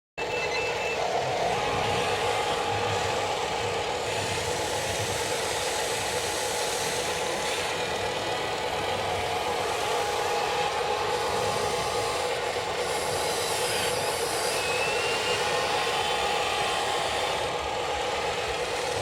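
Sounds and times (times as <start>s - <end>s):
rattly motor and gear noise: 0.2s - 19.0s.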